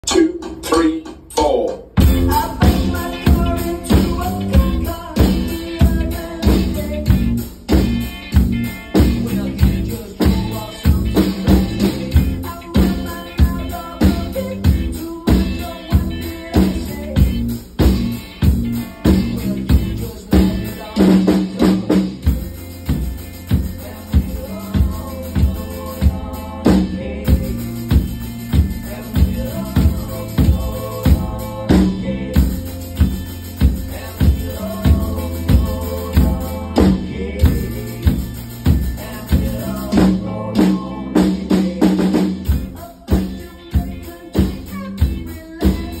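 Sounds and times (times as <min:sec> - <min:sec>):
backing track music: 0:00.0 - 0:46.0
drum kit playing a steady beat: 0:00.0 - 0:46.0.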